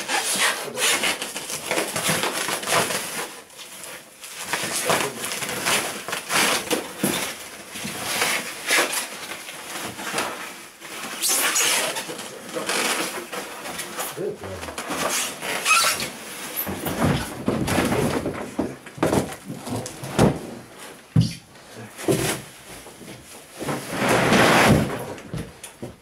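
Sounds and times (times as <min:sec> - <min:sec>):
plastic wrapping crinkling: 0:00.0 - 0:21.1.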